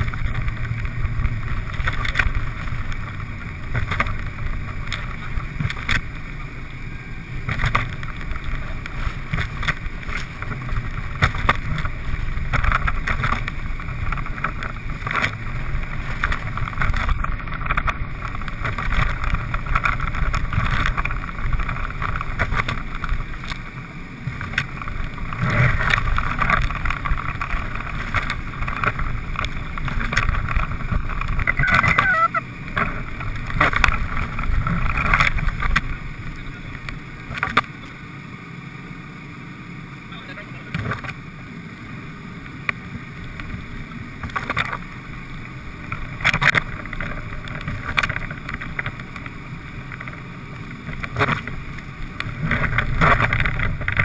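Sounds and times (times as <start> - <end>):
engine and tyre rumble: 0.0 - 54.0.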